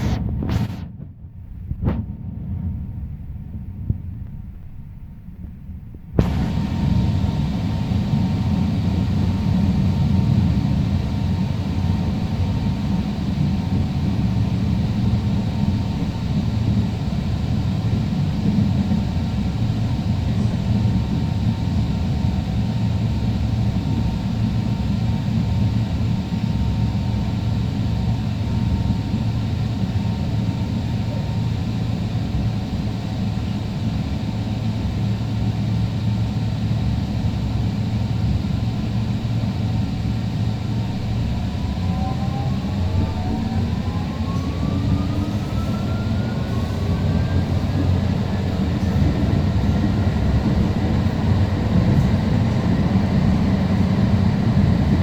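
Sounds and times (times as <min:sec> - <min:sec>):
faint steady whine: 0:00.0 - 0:55.0
train wheels rumbling on rail: 0:00.0 - 0:55.0.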